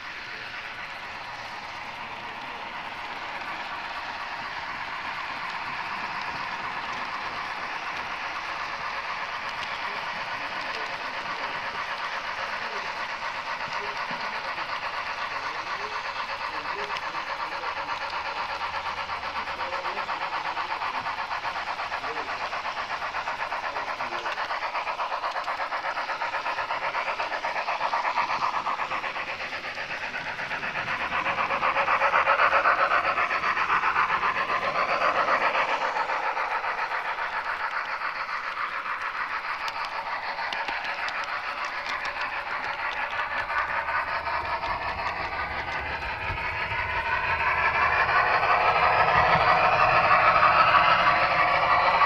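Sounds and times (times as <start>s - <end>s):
model train rolling on track: 0.0s - 52.0s.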